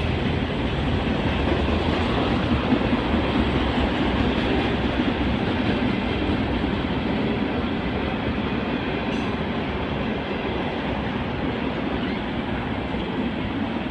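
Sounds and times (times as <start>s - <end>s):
steel wheels rumbling on rails: 0.0s - 13.9s
train cars rolling past: 0.0s - 13.9s.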